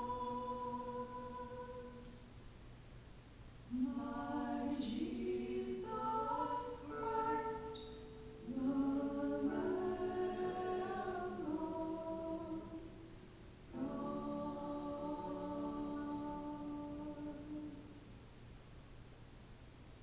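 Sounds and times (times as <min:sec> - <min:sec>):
two women singing in harmony: 0:00.0 - 0:02.1, 0:03.7 - 0:17.9.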